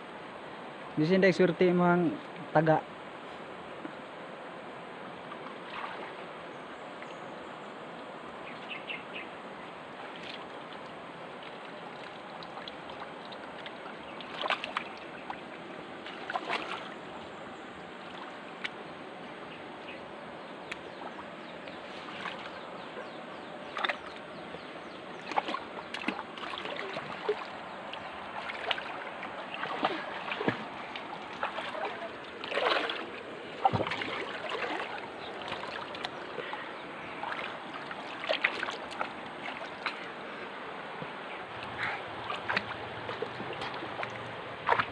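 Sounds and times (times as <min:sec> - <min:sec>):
river water flowing: 0:00.0 - 0:44.9
water splashing: 0:05.1 - 0:06.4, 0:09.9 - 0:44.9.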